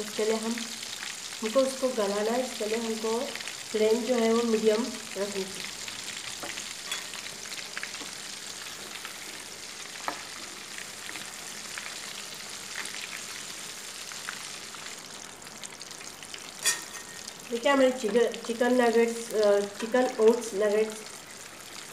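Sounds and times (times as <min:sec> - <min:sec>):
food deep-frying in oil: 0:00.0 - 0:21.9.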